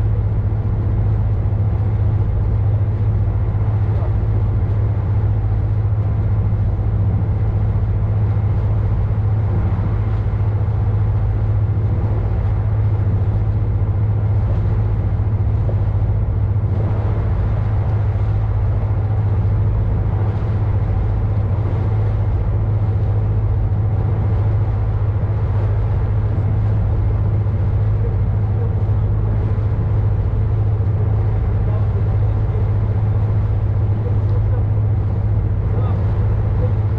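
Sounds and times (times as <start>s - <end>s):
constant rushing noise: 0.0s - 36.9s
ship engine droning: 0.0s - 36.9s.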